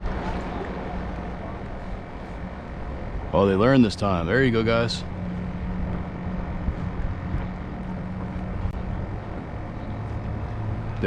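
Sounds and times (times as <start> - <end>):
low motor hum: 0.0 - 11.0
rough low rumbling: 0.0 - 11.0.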